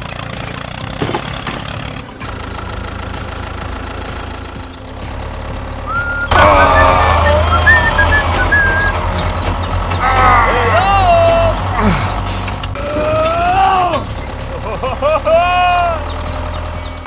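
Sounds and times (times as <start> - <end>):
heavy vehicle engine rumble: 0.0 - 17.0.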